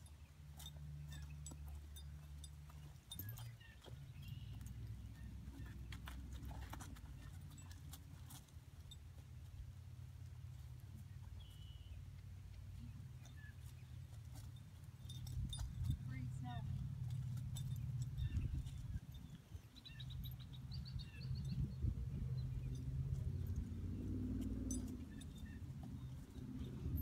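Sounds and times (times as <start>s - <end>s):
horse hooves on grass: 0.0s - 27.0s
low steady rumble: 0.0s - 27.0s.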